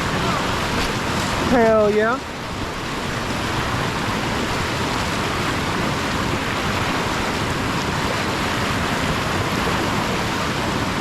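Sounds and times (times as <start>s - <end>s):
creek rapid rushing: 0.0s - 11.0s.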